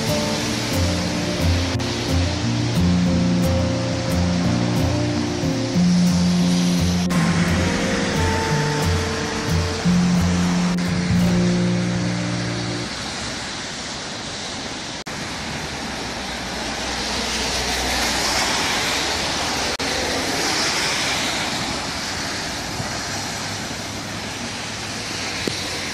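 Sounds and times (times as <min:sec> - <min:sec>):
rain hiss: 0:00.0 - 0:25.9
traffic on wet highway: 0:00.0 - 0:25.9.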